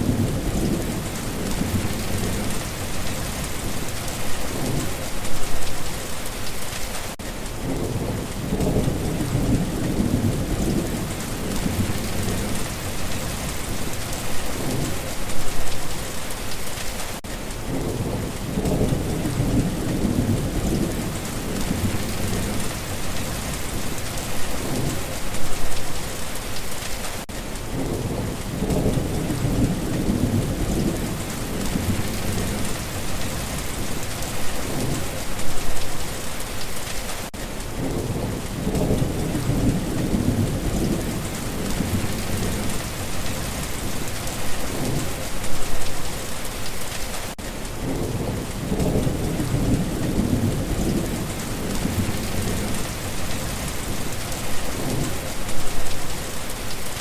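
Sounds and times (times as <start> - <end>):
thunder rumbling: 0.0 - 5.6, 7.6 - 16.0, 17.6 - 25.9, 27.7 - 36.1, 37.7 - 46.4, 47.7 - 56.4
rain pouring: 0.0 - 57.0.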